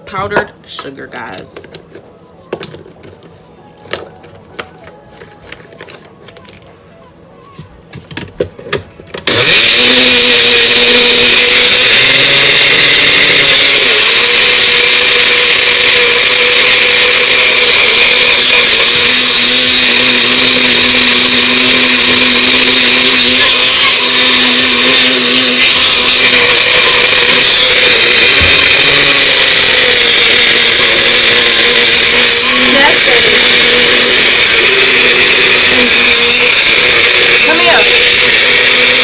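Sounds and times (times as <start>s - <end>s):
blender grinding sugar: 3.8s - 6.1s, 9.2s - 39.0s.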